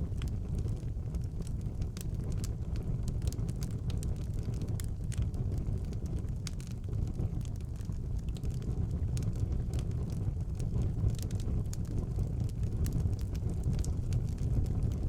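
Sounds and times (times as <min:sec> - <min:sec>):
fire crackling: 0:00.0 - 0:15.0
fire flames rumbling: 0:00.0 - 0:15.0.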